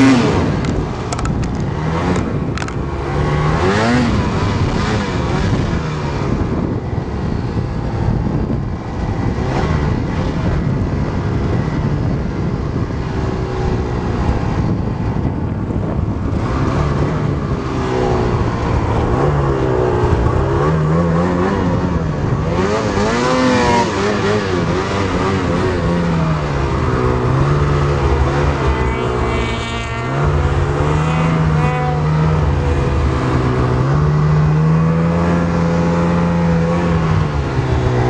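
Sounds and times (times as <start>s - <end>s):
snowmobile engine revving: 0.0s - 38.0s.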